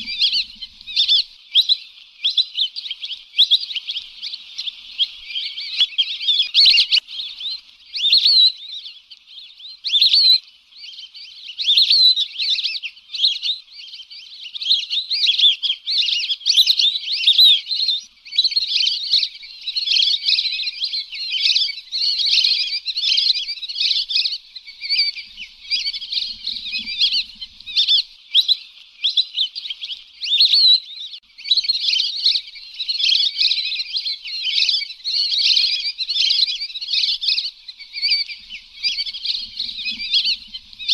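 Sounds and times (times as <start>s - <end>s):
ducks whistling calls: 0.0s - 40.9s.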